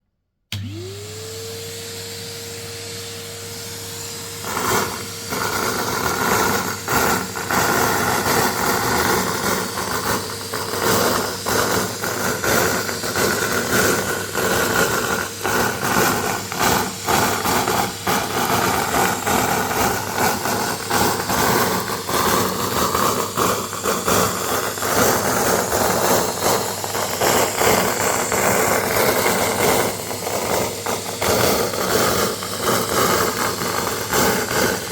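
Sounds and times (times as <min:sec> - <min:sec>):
vacuum cleaner motor running: 0:00.5 - 0:34.9
confetti rattling up vacuum nozzle: 0:04.4 - 0:34.9.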